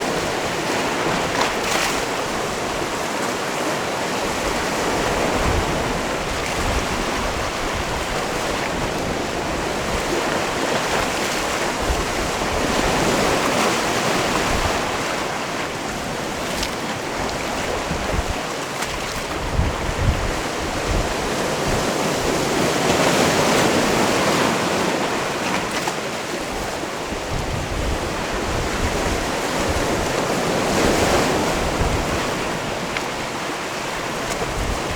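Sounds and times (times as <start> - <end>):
sea waves on rocky shore: 0.0 - 34.9
wind buffeting microphone: 4.1 - 25.7, 26.3 - 34.9.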